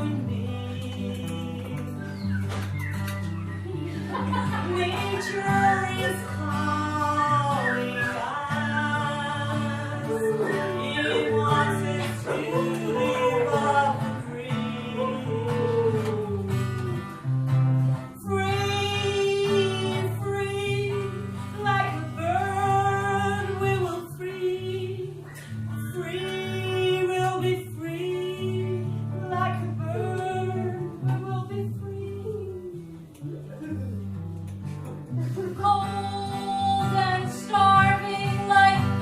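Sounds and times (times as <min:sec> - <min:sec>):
guitar accompaniment: 0:00.0 - 0:39.0
woman singing long notes: 0:04.6 - 0:17.2, 0:18.2 - 0:34.2, 0:35.4 - 0:39.0.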